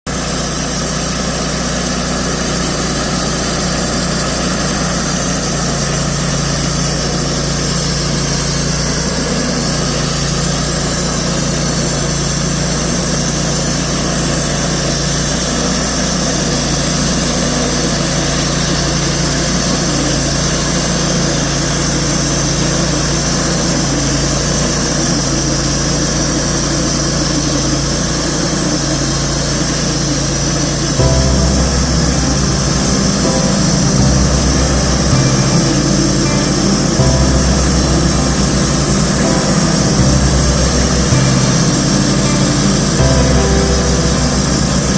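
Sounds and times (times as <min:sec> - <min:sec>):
sawmill engine running: 0:00.1 - 0:44.9.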